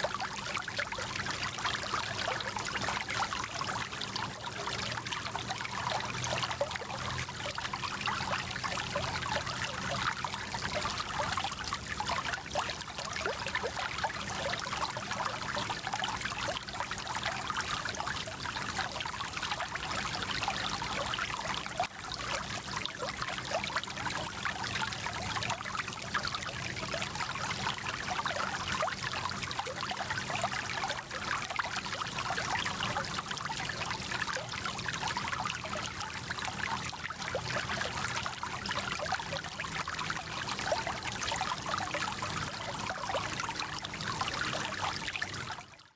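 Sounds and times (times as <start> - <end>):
stream babbling over stones: 0.0 - 45.7.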